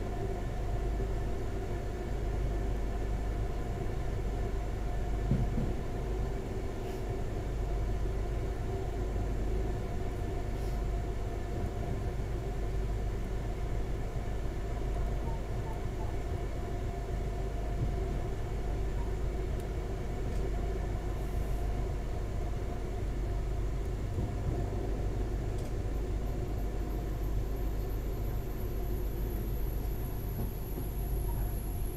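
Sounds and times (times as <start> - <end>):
diesel train rumbling: 0.0 - 31.9.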